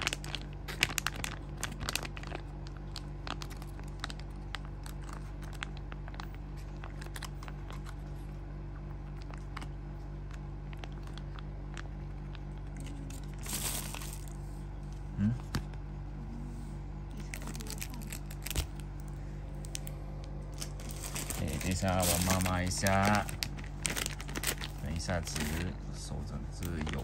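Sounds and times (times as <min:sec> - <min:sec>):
foil pouch crinkling: 0:00.0 - 0:08.1, 0:10.3 - 0:14.4, 0:17.2 - 0:27.0
steady low hum: 0:00.0 - 0:27.0.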